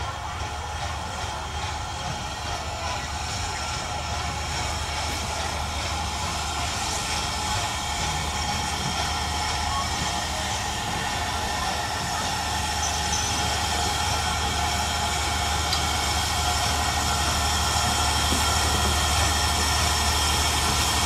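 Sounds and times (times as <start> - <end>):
train rolling on rails: 0.0 - 21.0.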